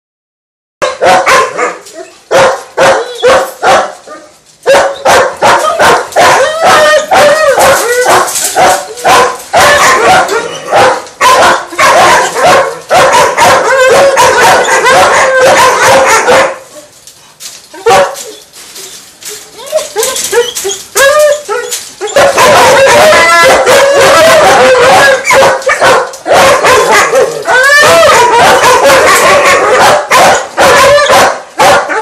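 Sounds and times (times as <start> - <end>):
dogs barking: 0.8 - 16.8, 17.8 - 18.2, 20.0 - 32.0.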